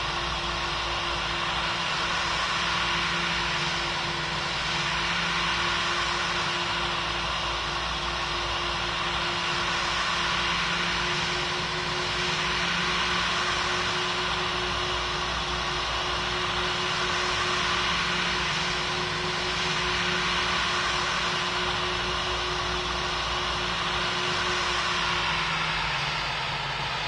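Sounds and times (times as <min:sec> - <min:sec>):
airplane cabin engine noise: 0:00.0 - 0:27.0
constant low hum: 0:00.0 - 0:27.0.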